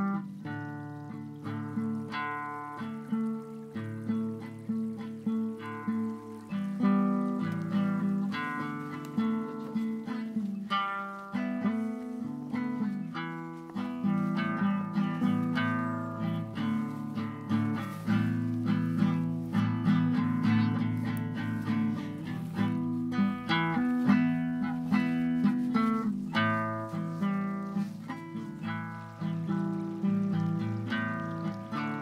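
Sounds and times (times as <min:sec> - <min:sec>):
acoustic guitar picking: 0:00.0 - 0:32.0.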